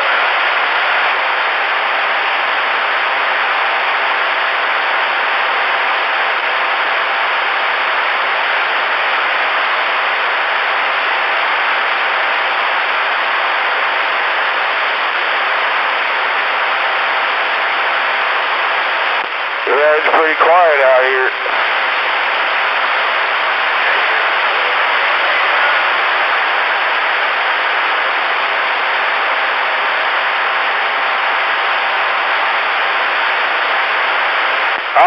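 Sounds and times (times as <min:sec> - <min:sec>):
radio static hiss: 0:00.0 - 0:35.0.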